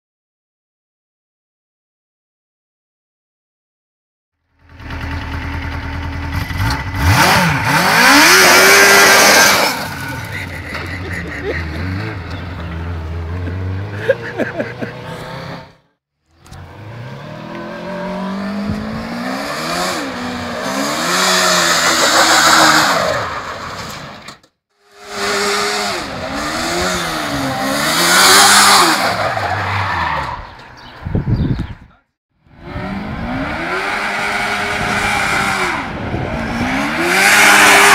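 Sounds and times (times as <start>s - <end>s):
go-kart engine revving: 4.6s - 15.8s, 16.4s - 30.4s, 32.5s - 37.9s.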